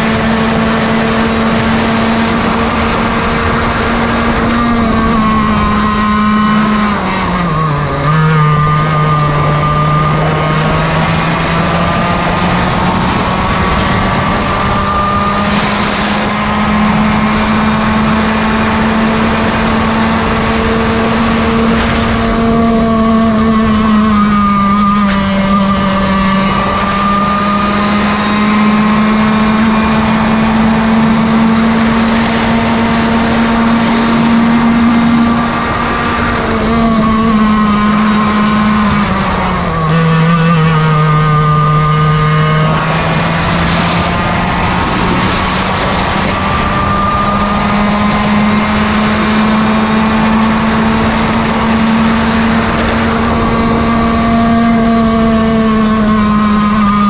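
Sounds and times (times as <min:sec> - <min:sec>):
kart engine at high revs: 0:00.0 - 0:57.0.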